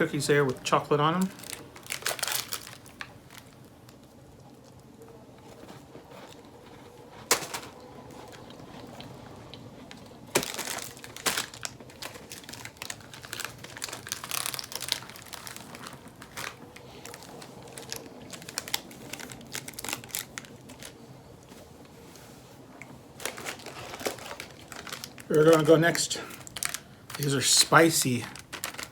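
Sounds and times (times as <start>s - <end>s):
snack wrapper crinkling: 1.2s - 4.8s, 5.4s - 21.0s, 23.1s - 28.9s.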